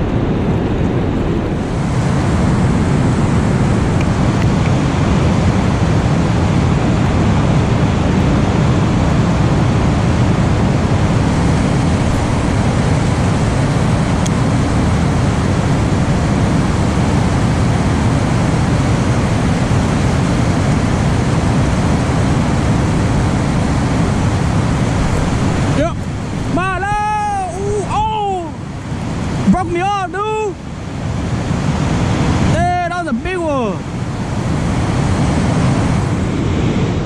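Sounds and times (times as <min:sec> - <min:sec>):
water rushing over dam: 0:00.0 - 0:37.0.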